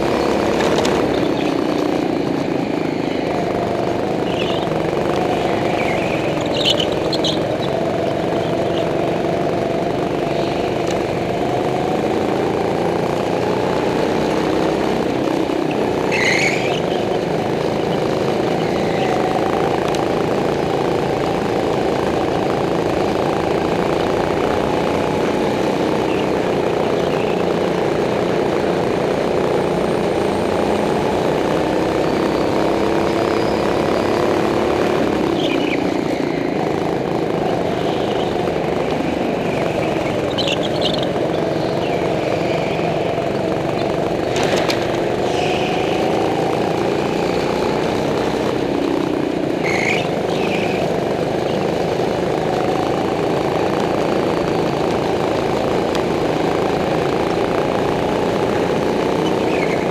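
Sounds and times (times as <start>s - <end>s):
go-kart engine revving: 0.0s - 59.9s.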